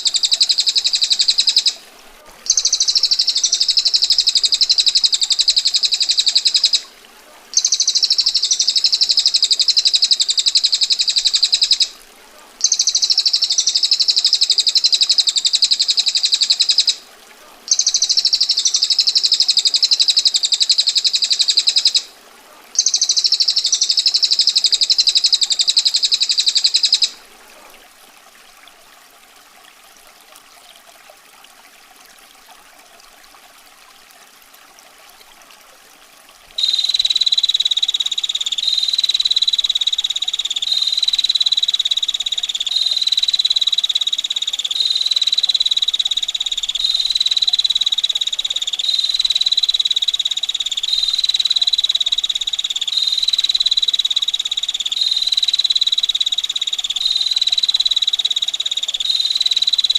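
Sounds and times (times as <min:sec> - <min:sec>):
faint water sound: 0:00.0 - 0:59.9.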